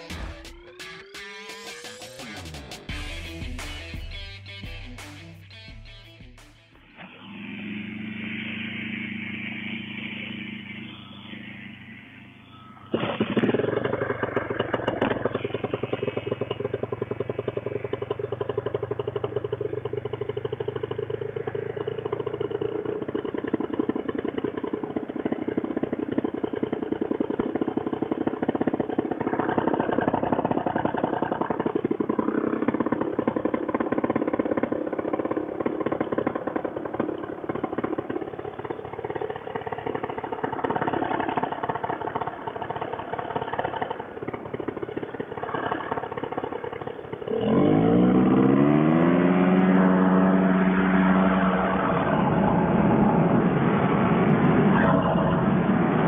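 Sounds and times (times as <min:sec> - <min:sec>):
paramotor engine revving: 0:06.8 - 0:56.0.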